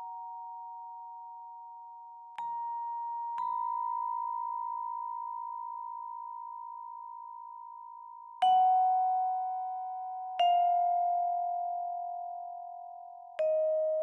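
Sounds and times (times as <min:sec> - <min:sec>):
ringing bell-like tones: 0:00.0 - 0:14.0.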